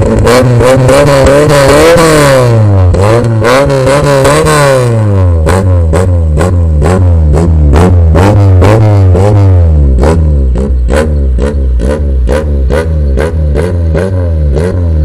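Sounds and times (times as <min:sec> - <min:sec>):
car engine revving: 0:00.0 - 0:15.0
exhaust cracks: 0:00.0 - 0:15.0.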